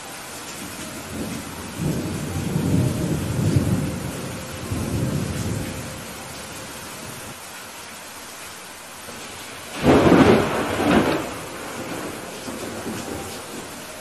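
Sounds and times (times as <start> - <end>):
heavy rain hissing: 0.0 - 14.0
thunder rumbling: 1.0 - 7.4, 9.1 - 14.0.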